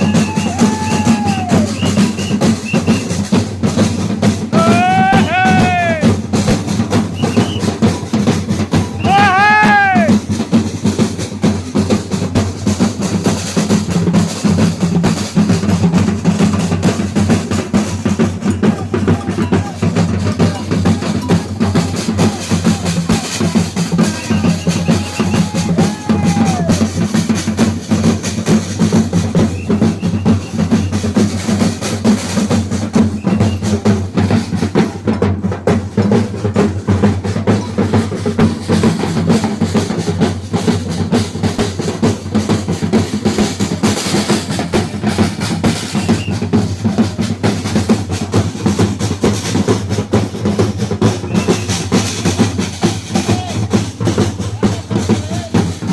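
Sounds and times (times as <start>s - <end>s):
deep bass drums: 0.0s - 55.9s
percussion band drumming: 0.0s - 55.9s
rattling snare drums: 0.0s - 55.9s.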